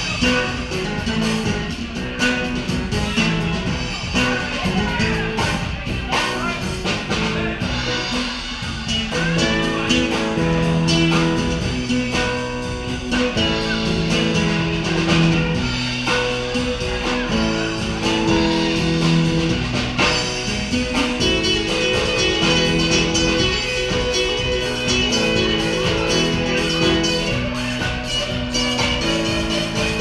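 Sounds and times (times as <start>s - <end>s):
keyboard chords: 0.0s - 30.0s
steady drum beat: 0.0s - 30.0s
strummed acoustic guitar: 0.0s - 30.0s.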